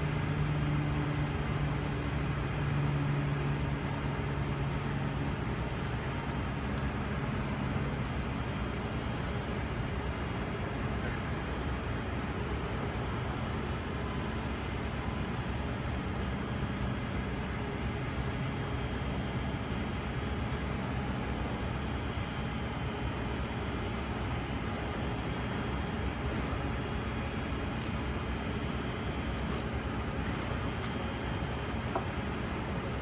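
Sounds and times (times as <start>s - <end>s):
distant traffic rumble: 0.0s - 33.0s.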